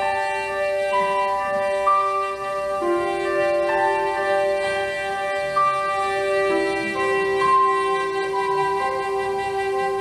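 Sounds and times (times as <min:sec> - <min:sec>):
soprano saxophone melody: 0:00.0 - 0:10.0
sustained accompaniment: 0:00.0 - 0:10.0.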